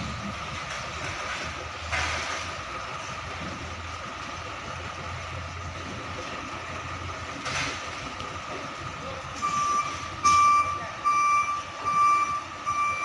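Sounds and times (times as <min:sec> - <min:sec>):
diesel trucks idling: 0:00.0 - 0:13.0.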